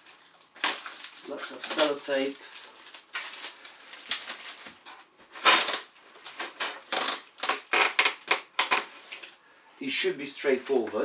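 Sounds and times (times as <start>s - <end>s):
plastic film rustling: 0.0s - 9.4s.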